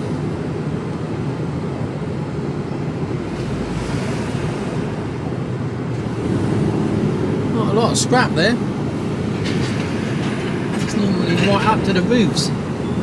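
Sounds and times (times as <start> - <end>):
diesel engine rumble: 0.0 - 13.0
road noise: 0.0 - 13.0.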